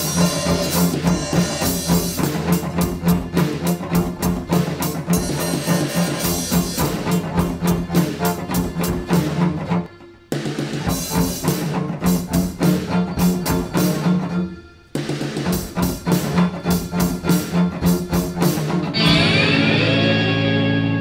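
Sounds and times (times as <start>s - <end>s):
background music with steady beat: 0.0s - 19.9s.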